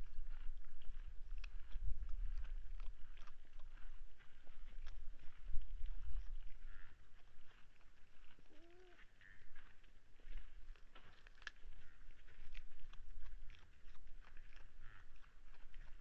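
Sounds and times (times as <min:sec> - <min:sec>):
wind rumble on microphone: 0:00.0 - 0:16.0
animals stepping in dry leaves: 0:00.2 - 0:16.0.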